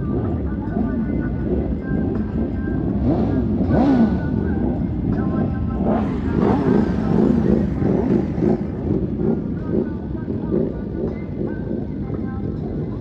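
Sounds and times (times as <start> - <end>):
car engines revving: 0.0 - 13.0
crowd voices: 1.8 - 12.9.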